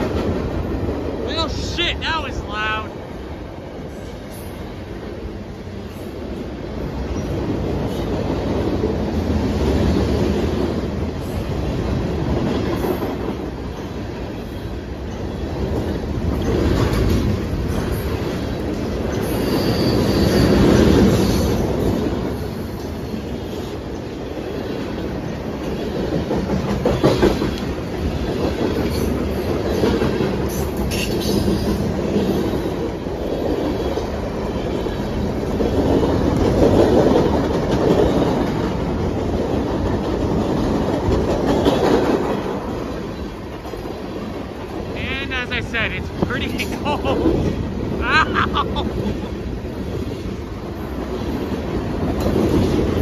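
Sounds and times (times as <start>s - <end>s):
clickety-clack over rail joints: 0.0s - 1.8s, 2.5s - 45.0s, 48.7s - 53.0s
freight train wheels rumbling on rail: 0.0s - 53.0s.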